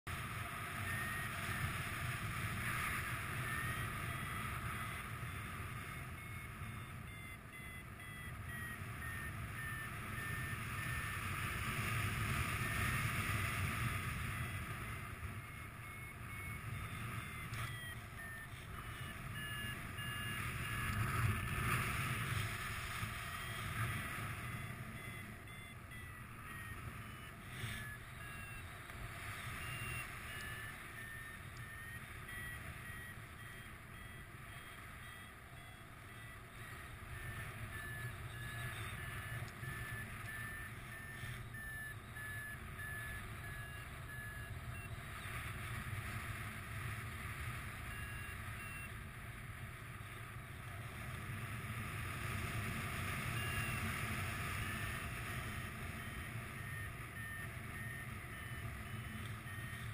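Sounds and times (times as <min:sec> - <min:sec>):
variometer beeping: 0:00.1 - 0:59.9.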